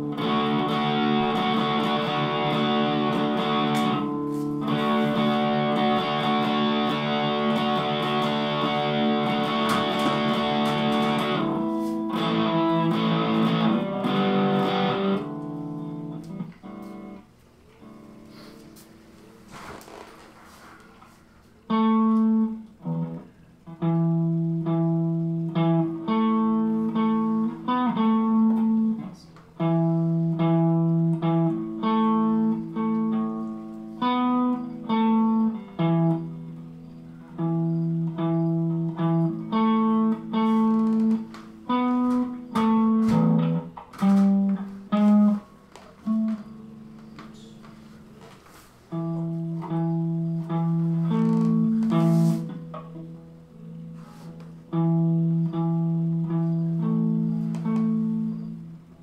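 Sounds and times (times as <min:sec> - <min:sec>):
guitar plucking: 0:00.0 - 0:19.4, 0:21.6 - 0:59.0.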